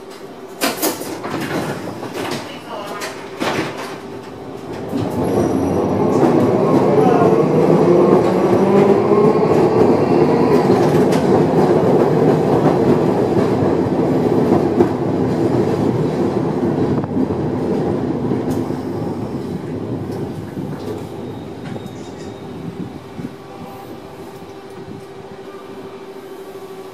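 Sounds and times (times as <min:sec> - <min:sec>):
tram wheels on rails: 0:00.0 - 0:26.9.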